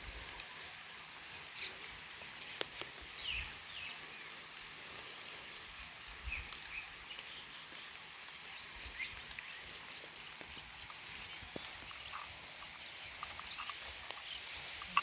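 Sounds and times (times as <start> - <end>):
birds chirping: 0.0 - 15.0
steady outdoor hiss: 0.0 - 15.0.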